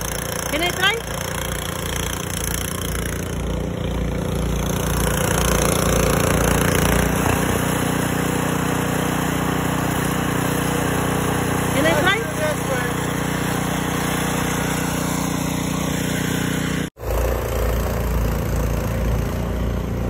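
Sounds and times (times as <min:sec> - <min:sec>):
snowblower engine running: 0:00.0 - 0:20.0.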